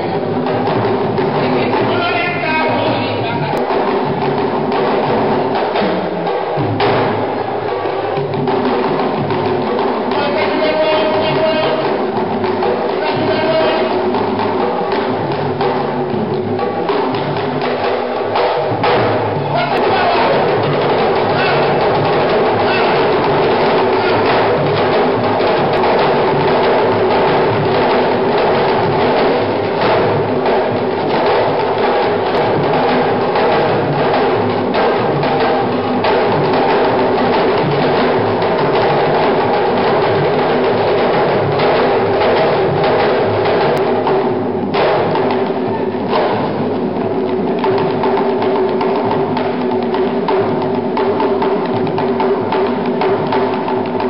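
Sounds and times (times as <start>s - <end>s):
drum ensemble playing fast rhythm: 0.0s - 54.0s.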